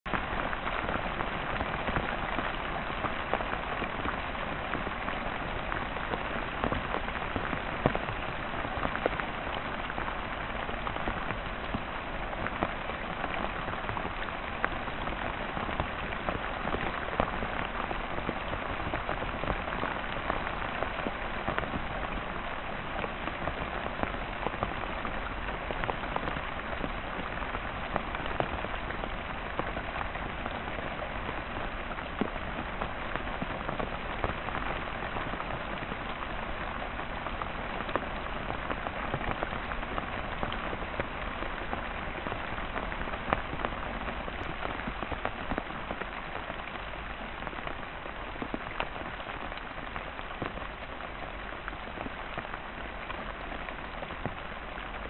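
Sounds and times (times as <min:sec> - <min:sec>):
heavy rain pouring: 0:00.1 - 0:55.0
raindrop hits: 0:00.1 - 0:55.0.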